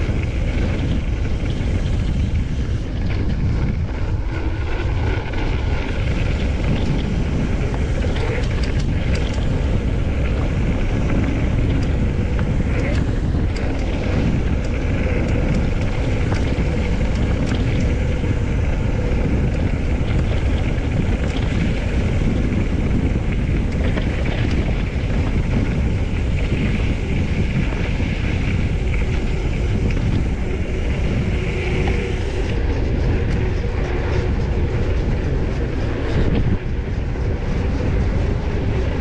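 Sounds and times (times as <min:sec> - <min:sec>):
bike clattering over rough trail: 0:00.0 - 0:39.0
wind rumbling on microphone: 0:00.0 - 0:39.0.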